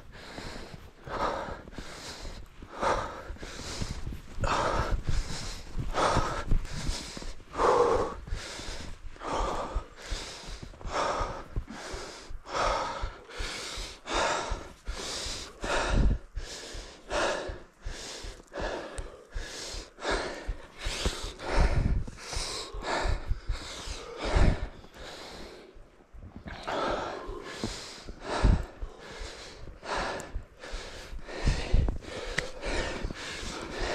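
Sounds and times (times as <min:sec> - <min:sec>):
dull low thumps: 0:00.0 - 0:33.9
person breathing hard: 0:00.0 - 0:33.9.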